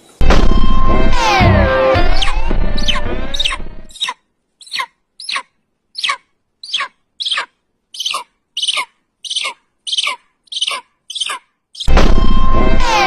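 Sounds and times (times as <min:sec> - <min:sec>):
bird calling: 0:01.2 - 0:11.9.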